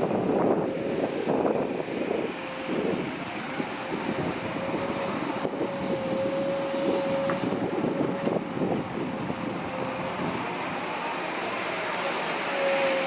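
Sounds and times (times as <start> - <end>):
heavy diesel machinery rumbling: 0.0 - 13.0
machinery whine: 0.0 - 13.0.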